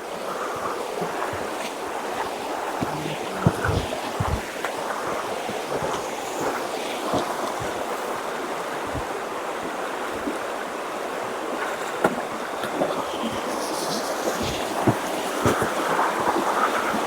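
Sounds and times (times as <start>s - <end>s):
mountain creek rushing: 0.0s - 17.0s.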